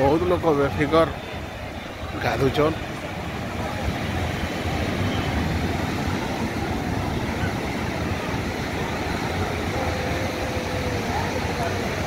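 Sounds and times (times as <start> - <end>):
waves breaking on a sandy beach: 0.0 - 12.0.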